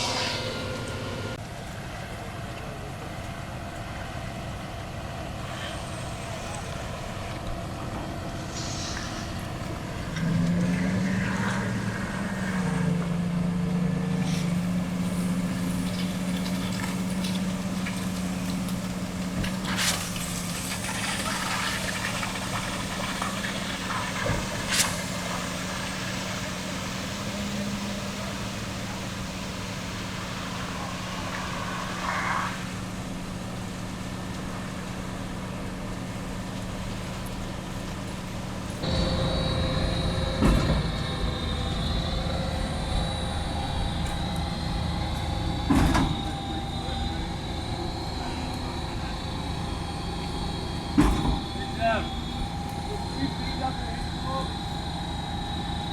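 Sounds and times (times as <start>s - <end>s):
truck engine droning: 0.0s - 55.9s.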